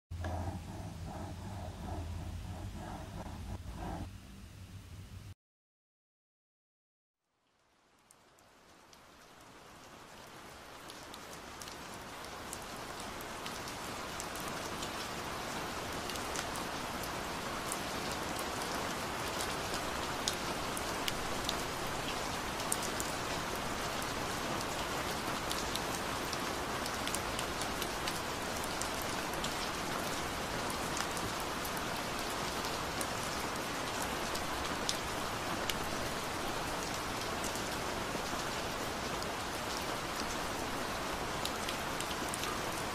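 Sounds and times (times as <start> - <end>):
steady rain falling: 7.3 - 42.9.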